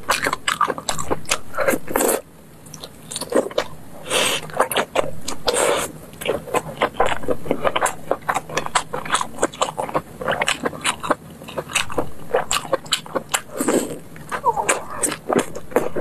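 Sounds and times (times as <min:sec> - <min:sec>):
wet chewing and lip-smacking: 0:00.1 - 0:16.0.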